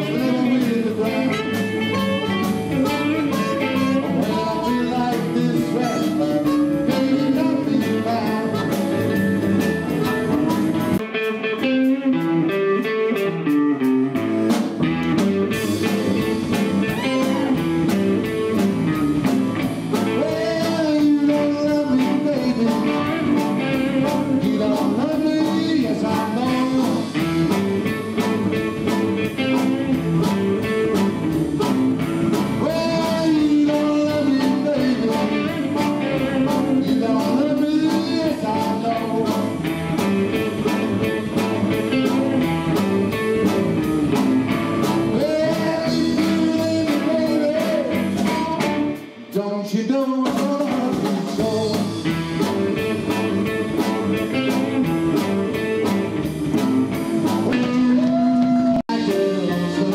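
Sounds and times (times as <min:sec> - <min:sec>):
wavering lead guitar line: 0:00.0 - 0:49.5, 0:50.4 - 0:59.9
blues band playing: 0:00.0 - 0:59.9.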